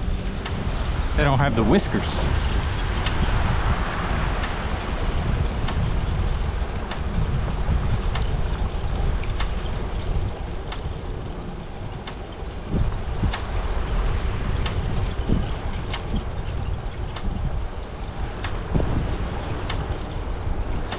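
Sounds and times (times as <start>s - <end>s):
wind rumble on microphone: 0.0s - 20.9s.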